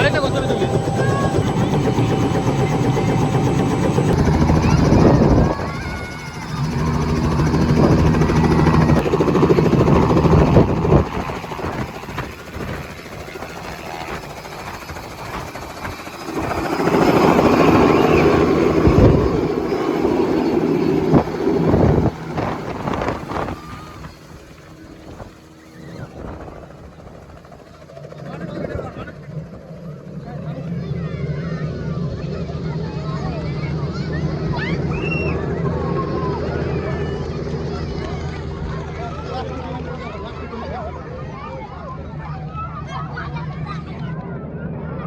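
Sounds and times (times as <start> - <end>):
helicopter rotor and engine: 0.0 - 45.0.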